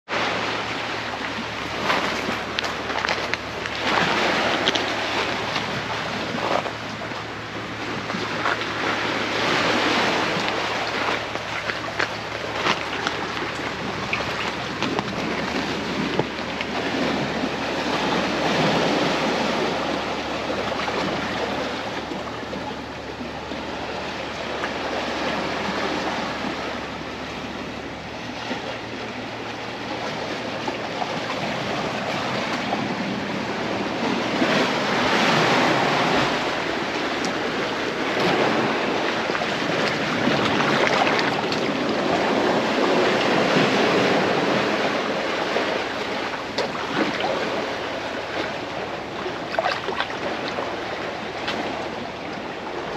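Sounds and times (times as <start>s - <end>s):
waves washing over pebbly shore: 0.1s - 52.9s.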